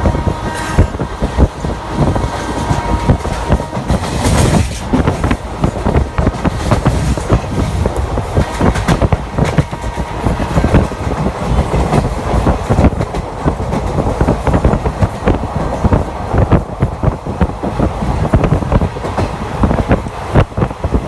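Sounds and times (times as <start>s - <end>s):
wheels clattering over rail joints: 0.0s - 17.0s
train wheels rumbling: 0.0s - 21.0s.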